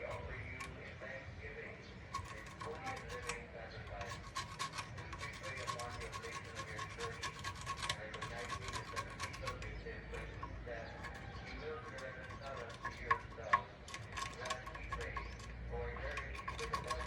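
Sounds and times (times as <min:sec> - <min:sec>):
hand rubbing metal part: 0:00.0 - 0:01.0, 0:01.8 - 0:17.0.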